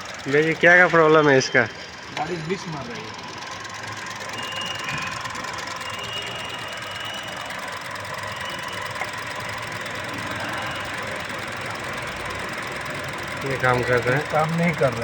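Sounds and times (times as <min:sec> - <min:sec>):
car engine idling with misfire: 0:00.0 - 0:15.0.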